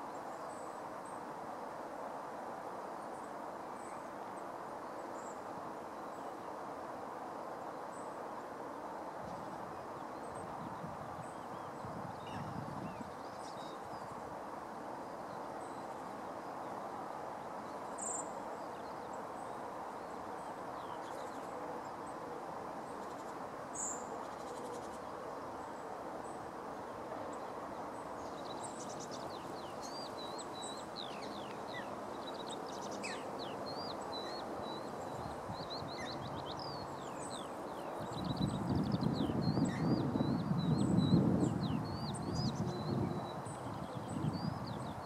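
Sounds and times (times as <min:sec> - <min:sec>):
outdoor background noise: 0:00.0 - 0:45.0.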